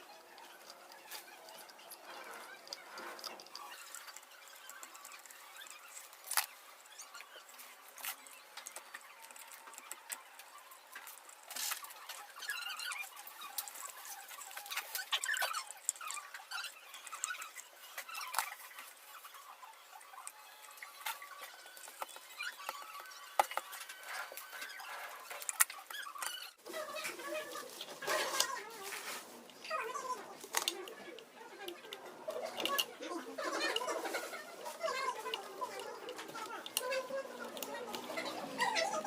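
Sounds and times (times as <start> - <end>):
small parts clicking and scraping: 0.0 - 39.0.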